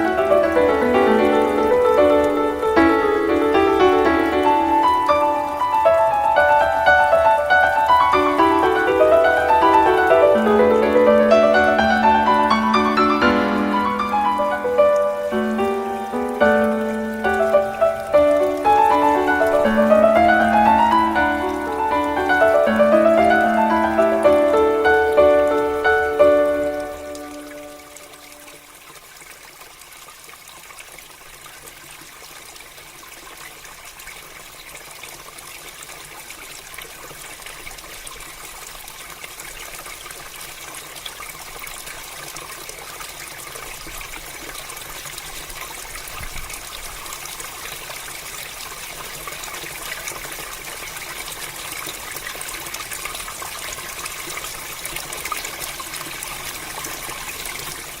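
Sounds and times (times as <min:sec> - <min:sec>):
water trickling in channel: 0:00.0 - 0:58.0.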